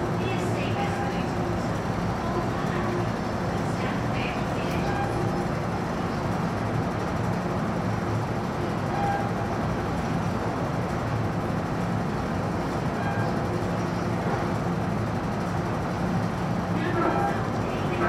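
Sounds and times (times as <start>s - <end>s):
electric train rumble and hum: 0.0s - 18.0s.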